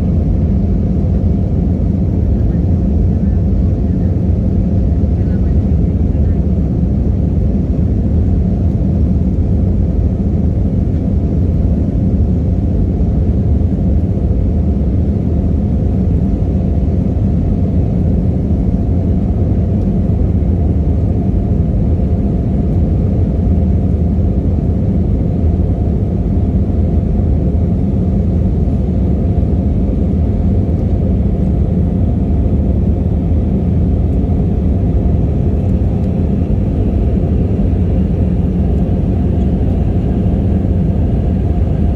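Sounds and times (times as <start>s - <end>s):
jet airliner cabin rumble: 0.0s - 41.9s.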